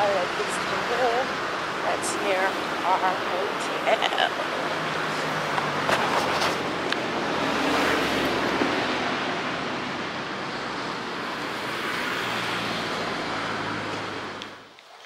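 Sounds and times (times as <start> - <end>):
road traffic rushing: 0.0 - 14.8.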